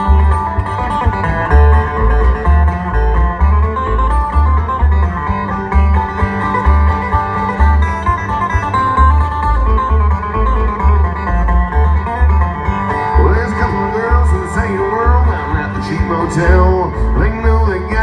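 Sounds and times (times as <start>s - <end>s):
bluegrass string band playing: 0.0s - 18.0s
upright bass beat: 0.0s - 18.0s.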